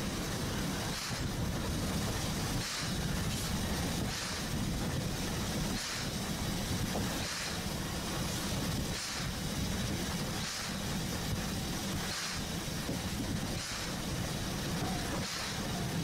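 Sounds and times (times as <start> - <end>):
train rumbling with hiss: 0.0 - 16.0.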